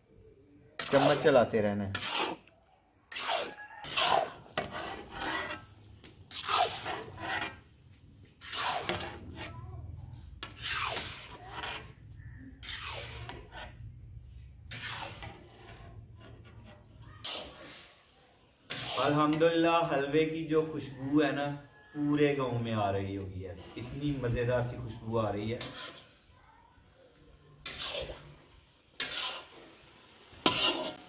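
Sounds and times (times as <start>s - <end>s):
spoon scraping a cooking pot: 0.8s - 18.0s, 18.6s - 20.6s, 23.5s - 26.3s, 27.6s - 31.0s.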